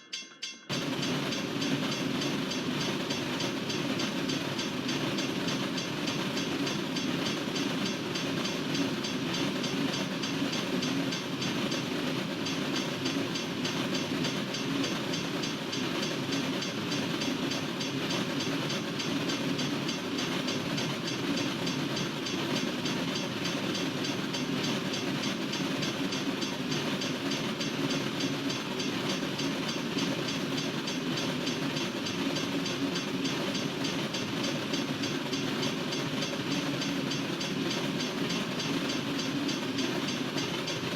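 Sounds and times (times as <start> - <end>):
wheel clatter on rails: 0.7 - 40.9.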